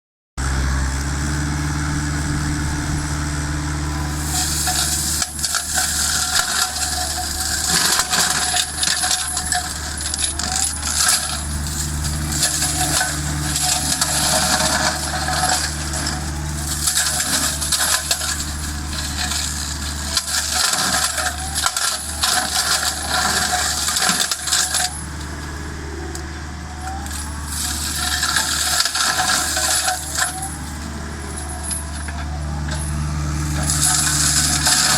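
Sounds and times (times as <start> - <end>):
engine and rotor humming: 0.4 - 34.9.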